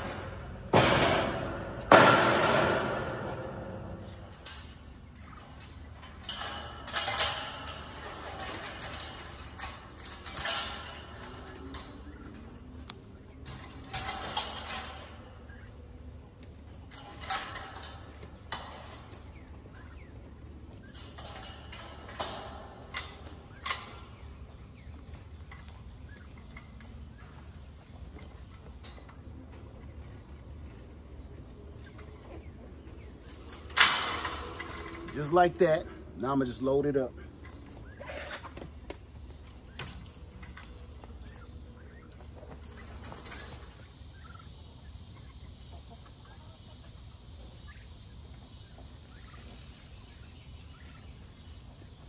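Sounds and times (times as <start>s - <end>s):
wire panels clanking and rattling: 0.0s - 46.4s.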